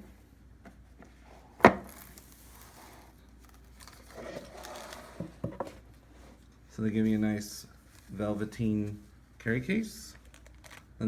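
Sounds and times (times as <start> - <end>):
cardboard and packaging rustling: 0.8 - 9.1, 10.1 - 11.0.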